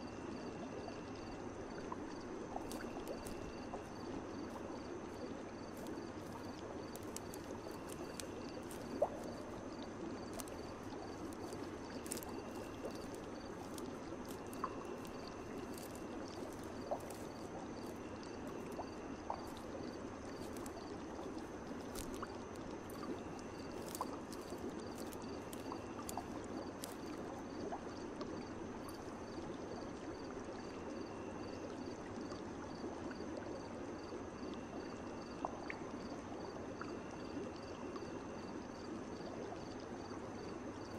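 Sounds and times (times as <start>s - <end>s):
water trickling: 0.0s - 40.9s
water drips: 0.2s - 40.9s.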